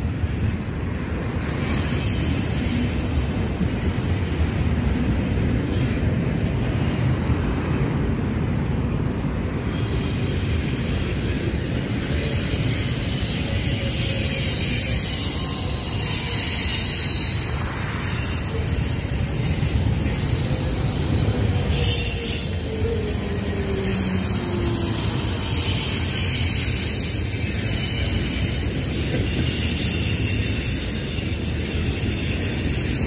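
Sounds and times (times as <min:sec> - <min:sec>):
train wheels rumbling on rails: 0:00.0 - 0:33.0
high wheel squeal: 0:01.4 - 0:07.4, 0:09.4 - 0:33.0.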